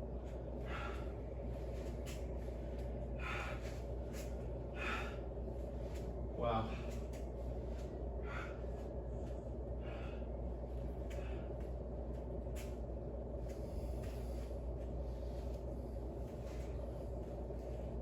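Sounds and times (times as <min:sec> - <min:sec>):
steady low hum: 0:00.0 - 0:18.0
man breathing hard: 0:00.3 - 0:12.8, 0:13.4 - 0:18.0.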